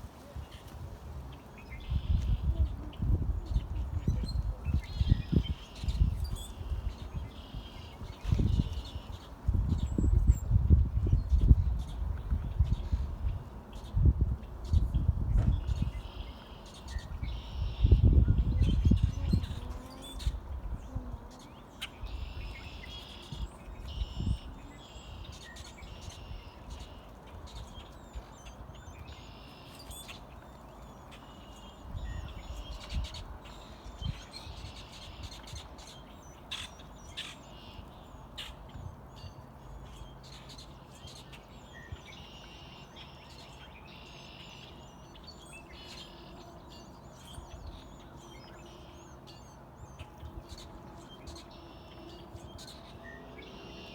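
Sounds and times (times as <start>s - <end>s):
birds chirping: 0.3s - 53.9s.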